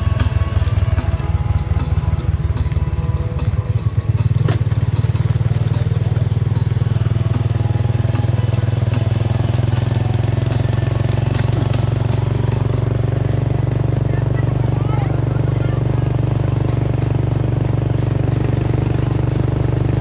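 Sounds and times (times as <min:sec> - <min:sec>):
mini train engine running: 0:00.0 - 0:20.0
train rattles and clicks: 0:00.0 - 0:20.0.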